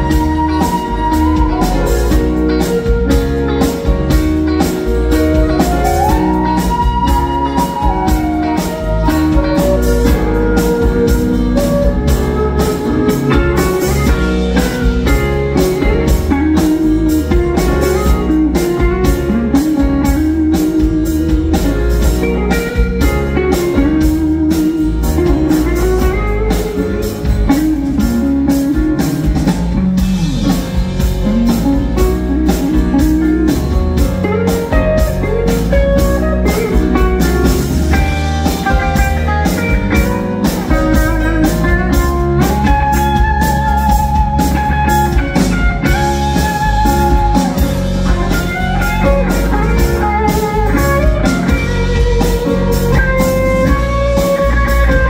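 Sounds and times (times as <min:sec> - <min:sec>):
flute melody: 0:00.0 - 0:27.1, 0:38.0 - 0:55.0
electric guitar lead: 0:00.0 - 0:55.0
soft rock band playing: 0:00.0 - 0:55.0.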